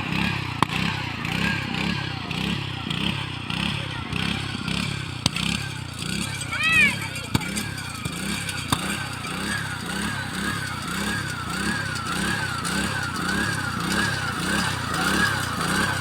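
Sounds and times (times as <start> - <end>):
combine harvester whining: 0.0 - 16.0.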